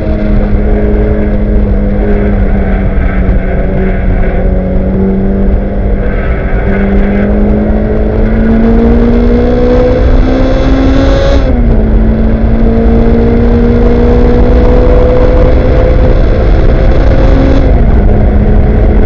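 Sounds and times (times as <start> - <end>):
race car engine accelerating: 0.0 - 19.0
wind and road noise: 0.0 - 19.0.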